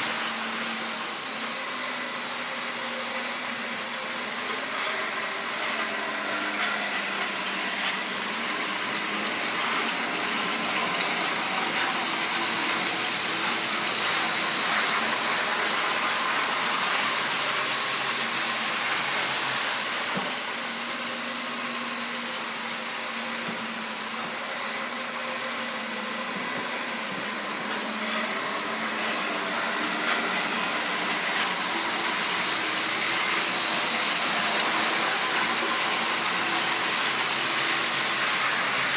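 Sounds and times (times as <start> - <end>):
model train motor whirring: 0.0 - 21.0, 26.3 - 38.9.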